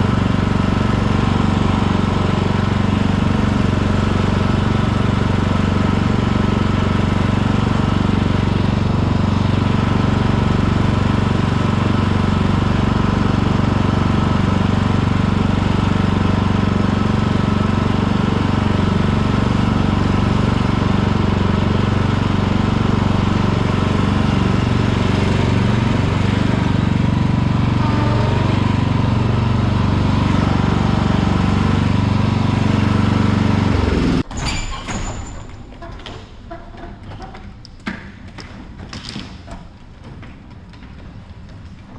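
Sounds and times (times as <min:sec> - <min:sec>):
lawn tractor engine running: 0:00.0 - 0:41.9.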